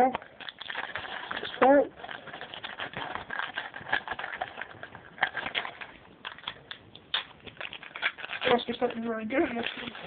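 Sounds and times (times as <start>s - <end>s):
wrapper and cards crinkling: 0.0s - 10.0s.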